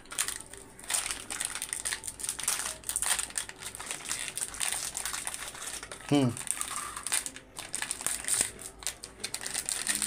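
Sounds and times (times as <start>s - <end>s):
plastic wrappers crinkling: 0.0s - 10.0s.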